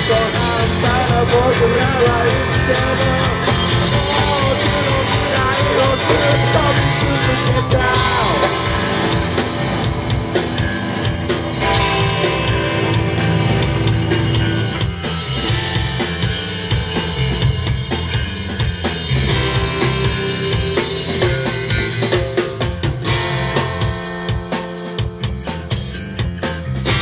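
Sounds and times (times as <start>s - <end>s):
drum hits: 0.0s - 25.6s
live rock band playing: 0.0s - 27.0s.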